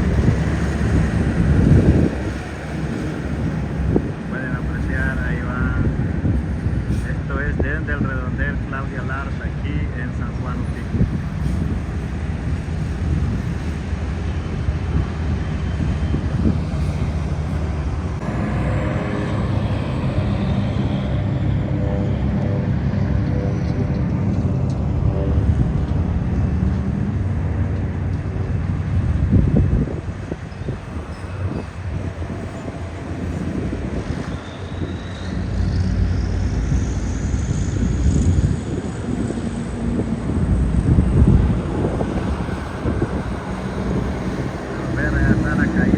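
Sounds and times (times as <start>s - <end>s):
low engine drone: 0.0s - 45.9s
pitched engine hum: 0.0s - 45.9s
wind buffeting microphone: 0.0s - 45.9s.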